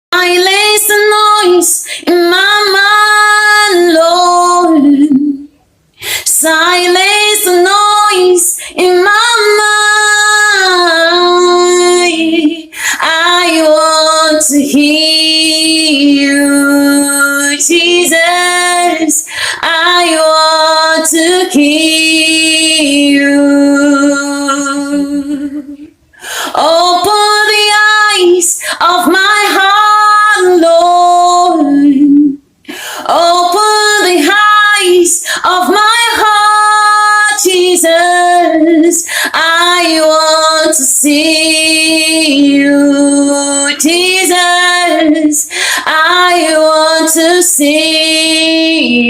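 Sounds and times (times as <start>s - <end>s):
woman singing a gospel song: 0.2s - 5.4s, 6.0s - 49.0s.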